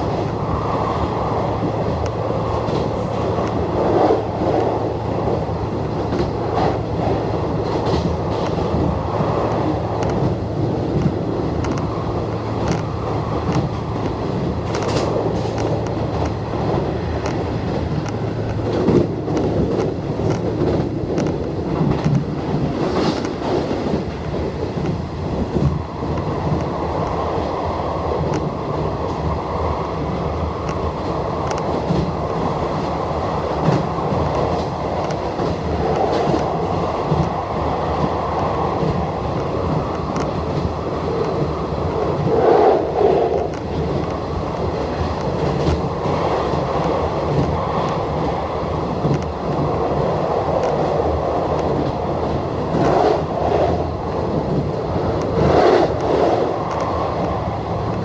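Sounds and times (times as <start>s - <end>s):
train wheels rumbling on rail: 0.0s - 58.0s
clacks over rail joints: 1.4s - 26.9s, 28.1s - 29.4s, 30.0s - 58.0s.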